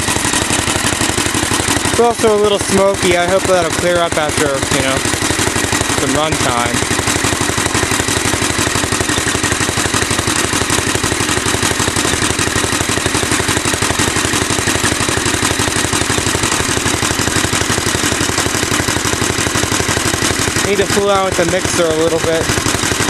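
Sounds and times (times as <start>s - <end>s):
single-cylinder engine running: 0.0s - 23.0s.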